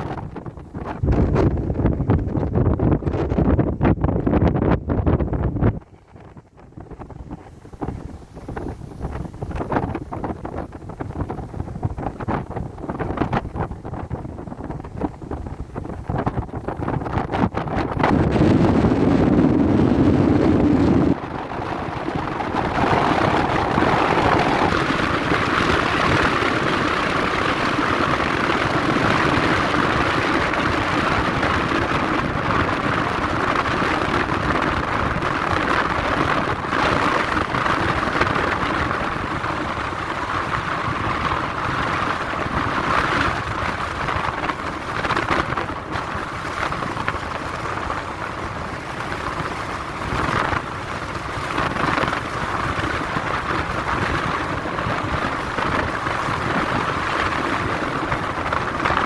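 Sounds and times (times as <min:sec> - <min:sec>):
heavy low rumble: 0:00.0 - 0:48.8
strong wind buffeting microphone: 0:00.0 - 0:59.0.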